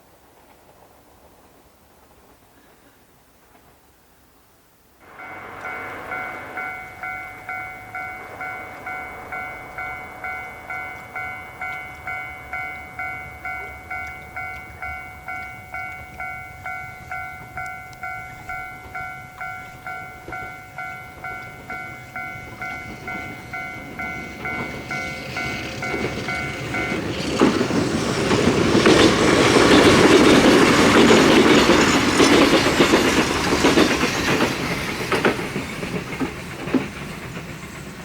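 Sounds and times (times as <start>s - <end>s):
level crossing warning bell: 5.0s - 36.4s.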